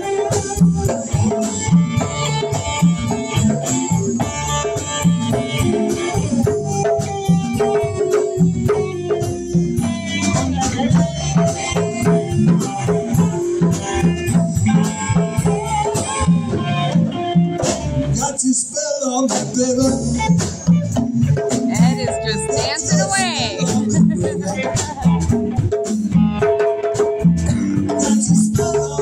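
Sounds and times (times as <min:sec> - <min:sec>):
bass guitar: 0:00.0 - 0:29.0
congas: 0:00.0 - 0:29.0
electric guitar: 0:00.0 - 0:29.0.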